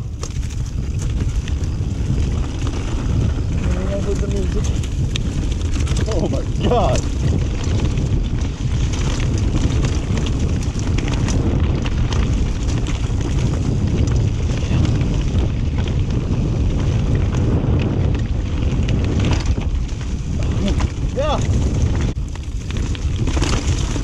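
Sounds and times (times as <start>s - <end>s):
bike rattling clicks and knocks: 0.0s - 24.0s
deep tyre rumble: 0.0s - 24.0s
wind buffeting microphone: 0.0s - 24.0s.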